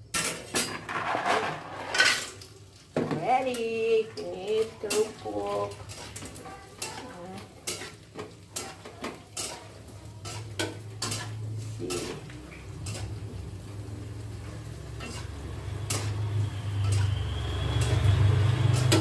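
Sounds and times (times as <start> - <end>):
crackers sizzling in hot oil: 0.0 - 19.0
utensils clicking against a wok: 3.4 - 19.0.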